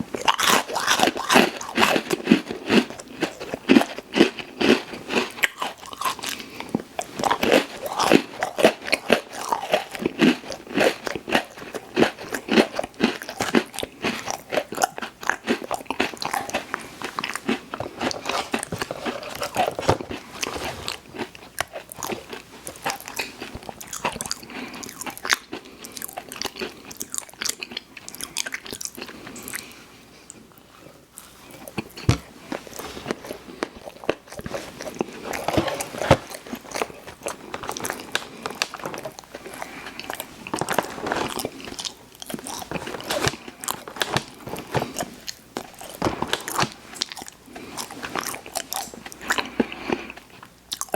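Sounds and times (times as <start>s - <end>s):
chewing snacks: 0.0s - 50.9s.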